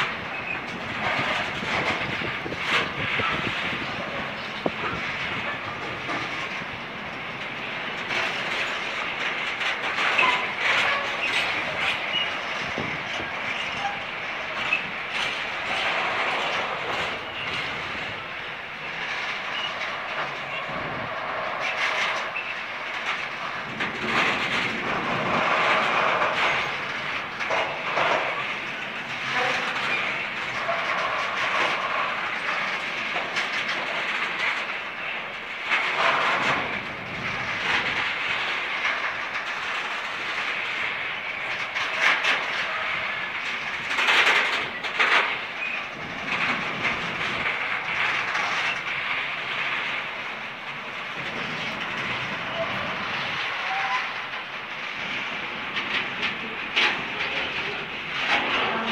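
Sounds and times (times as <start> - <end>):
train wheels rushing on rail: 0.0 - 58.9
wheels clicking over rail joints: 0.0 - 58.9.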